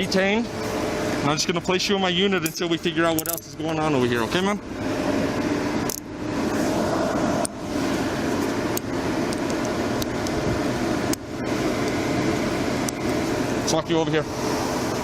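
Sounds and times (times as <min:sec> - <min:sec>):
vehicle running noise: 0:00.0 - 0:15.0.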